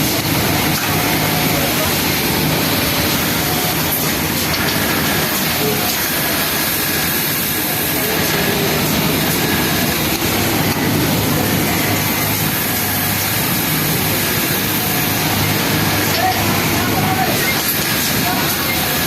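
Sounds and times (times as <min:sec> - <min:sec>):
din of other machines: 0:00.0 - 0:19.0
sewing machine whirring: 0:00.0 - 0:19.0.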